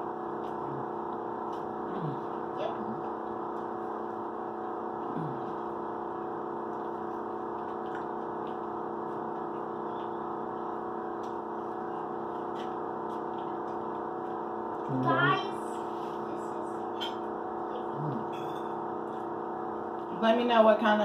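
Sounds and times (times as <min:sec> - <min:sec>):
background hum of held tones: 0:00.0 - 0:21.0.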